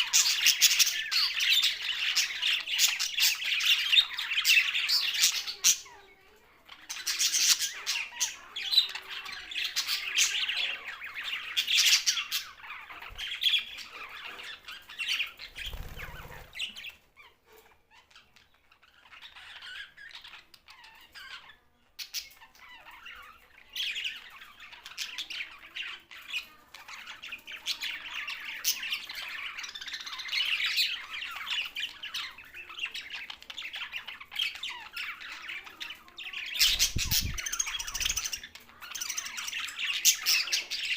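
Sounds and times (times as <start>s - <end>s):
budgerigars chattering and squawking: 0.0s - 40.9s.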